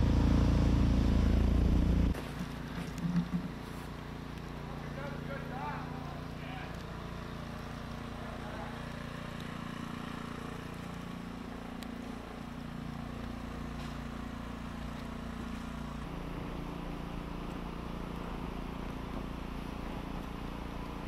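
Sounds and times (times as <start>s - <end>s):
engine running low hum: 0.0s - 21.0s.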